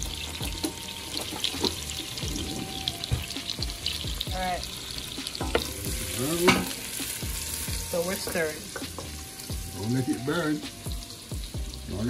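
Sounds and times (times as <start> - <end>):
garlic sizzling in butter and oil: 0.0 - 12.0.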